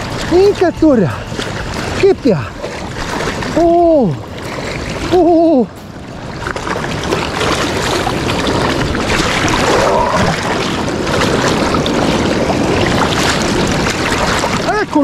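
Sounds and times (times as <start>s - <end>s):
river water churning and splashing: 0.0s - 15.0s.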